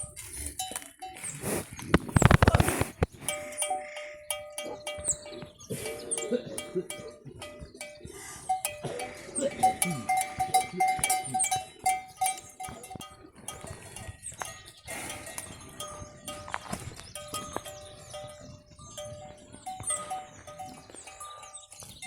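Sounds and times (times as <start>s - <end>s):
livestock bells ringing: 0.0s - 1.6s, 3.2s - 22.0s.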